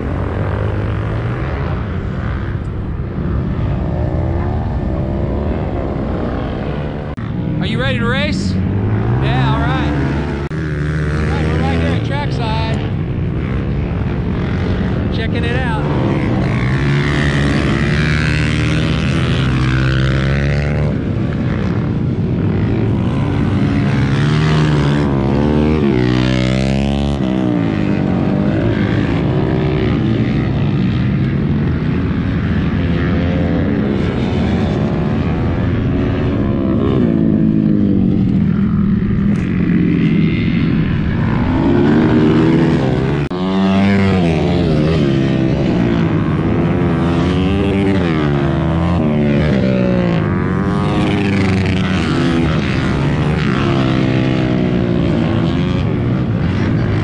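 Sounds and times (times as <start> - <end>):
racing motorcycle engines revving: 0.0 - 57.0.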